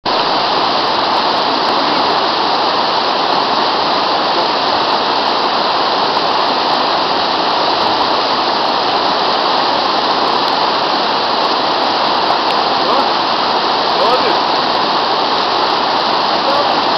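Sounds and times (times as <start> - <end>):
river rushing over rocks: 0.1 - 16.9.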